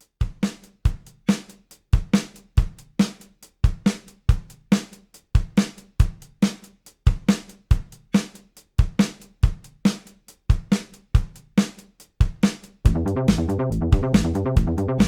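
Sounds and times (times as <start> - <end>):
fast drum-kit beat: 0.0 - 15.0.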